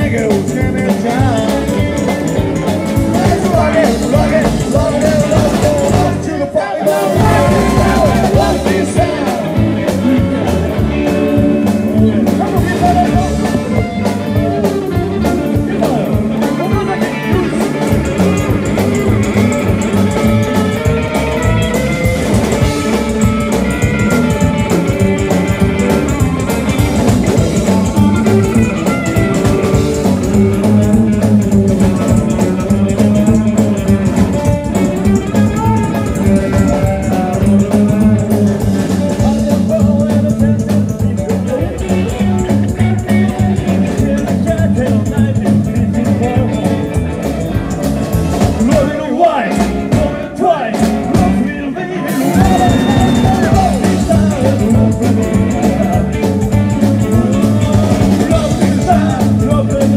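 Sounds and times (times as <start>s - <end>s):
person singing: 0.0s - 47.8s, 48.4s - 59.9s
drum kit beat: 0.0s - 59.9s
electric guitars: 0.0s - 59.9s.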